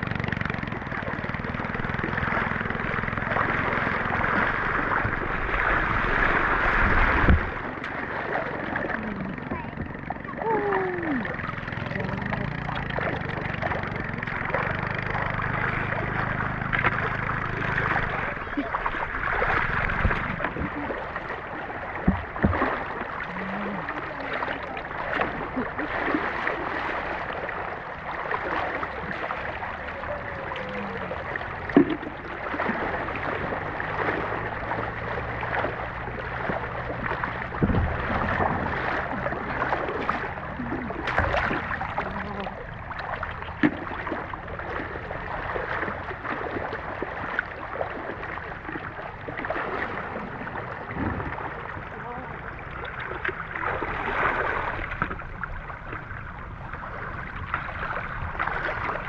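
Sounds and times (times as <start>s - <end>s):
water sloshing: 0.0s - 59.0s
short sharp splashes or knocks: 0.4s - 10.2s, 12.5s - 29.4s, 31.2s - 52.0s.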